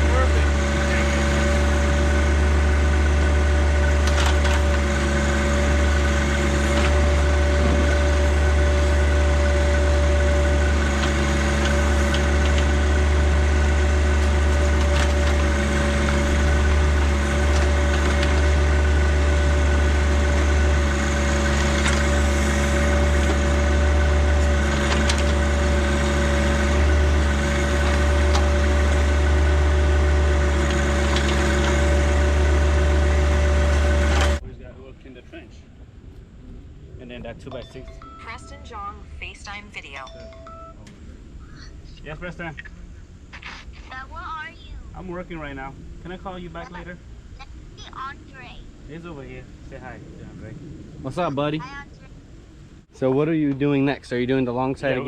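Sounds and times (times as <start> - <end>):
tractor engine running: 0.0 - 49.8, 51.1 - 55.0.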